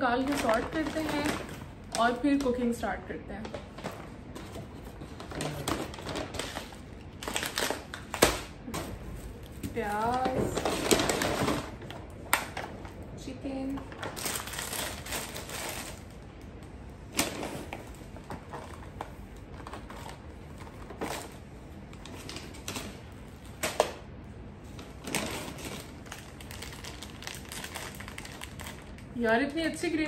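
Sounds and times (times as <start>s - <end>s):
plastic packaging rustling: 0.0s - 24.0s, 24.6s - 29.2s.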